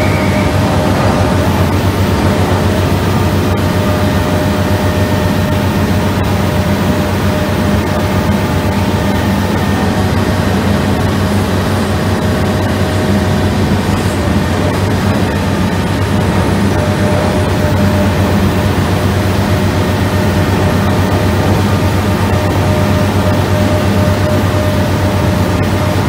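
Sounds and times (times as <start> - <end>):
drum cutter cutting rock: 0.0 - 26.0
excavator engine and hydraulics: 0.0 - 26.0.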